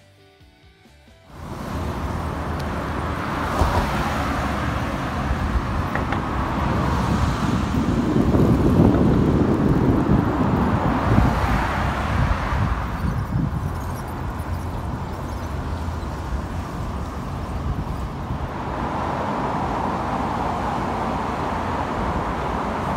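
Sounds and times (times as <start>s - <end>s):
highway traffic: 1.1s - 22.9s
vehicle passing close: 1.3s - 22.9s
wind rumble on microphone: 1.4s - 22.9s.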